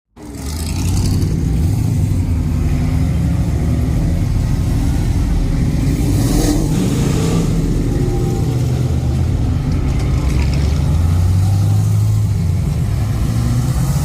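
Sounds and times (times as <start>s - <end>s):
car engine revving: 0.2s - 14.0s.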